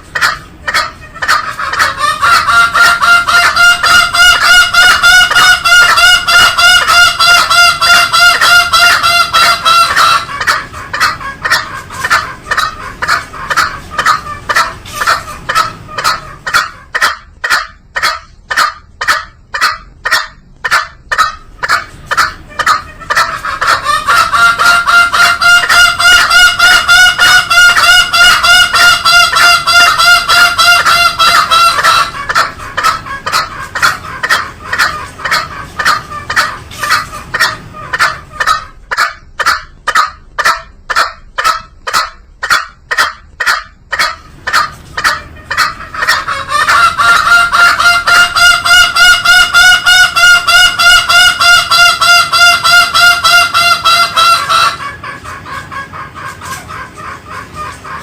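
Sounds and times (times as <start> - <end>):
junglefowl calling: 0.0 - 58.0.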